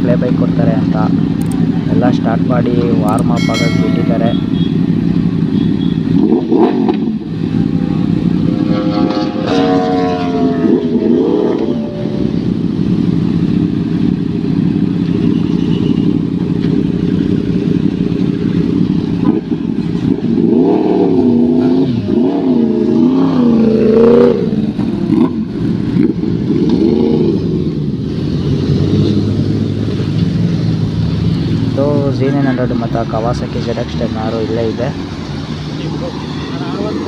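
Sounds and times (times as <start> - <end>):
motorcycle engines idling: 0.0 - 8.8, 11.5 - 37.0
motorcycle engine revving: 0.0 - 37.0.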